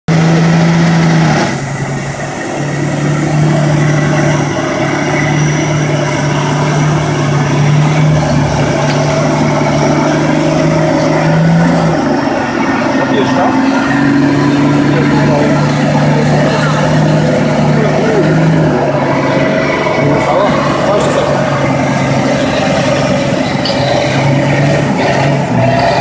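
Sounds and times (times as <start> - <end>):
truck engine at high revs: 0.0 - 26.0.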